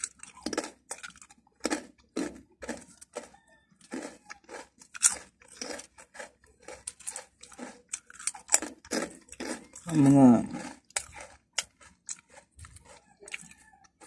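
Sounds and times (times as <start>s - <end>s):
mouth chewing crunchy snack: 0.0s - 14.0s.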